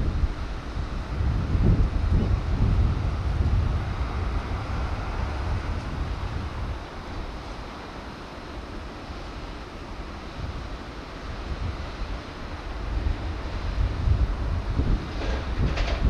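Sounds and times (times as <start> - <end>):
steady background hiss: 0.0 - 15.6
wind buffeting microphone: 0.0 - 16.0.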